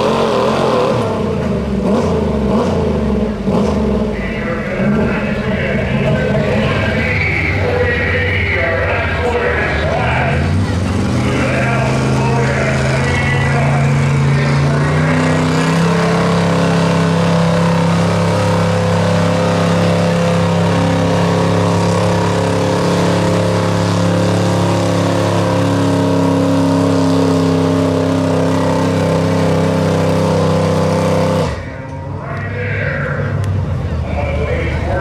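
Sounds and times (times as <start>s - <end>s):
truck engine at high revs: 0.0s - 35.0s.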